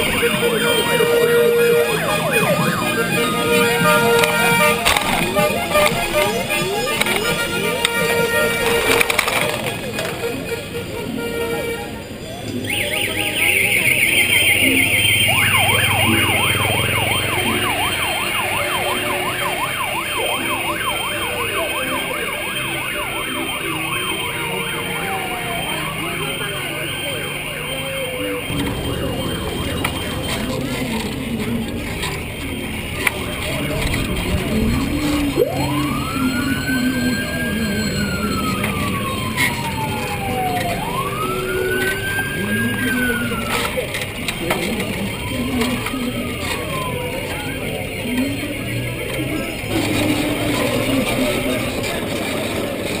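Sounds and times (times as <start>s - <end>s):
electronic siren yelp and wail: 0.0s - 10.5s, 11.2s - 53.0s.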